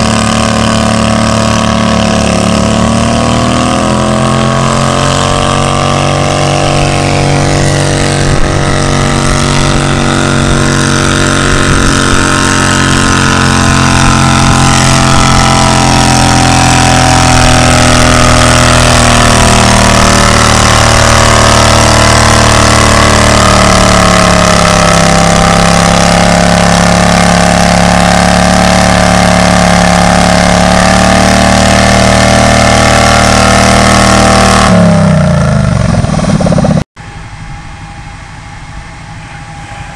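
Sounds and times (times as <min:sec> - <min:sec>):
tractor engine running hard: 0:00.0 - 0:39.9.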